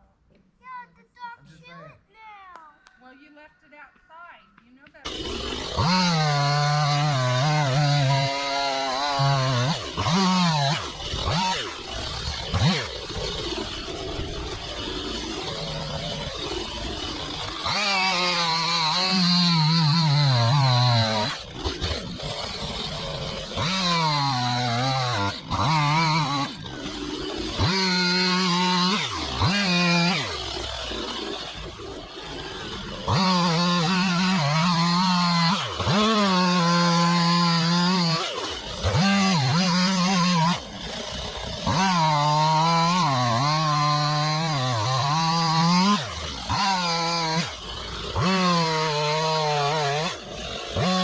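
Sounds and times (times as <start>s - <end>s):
chainsaw revving under load: 5.0s - 51.0s.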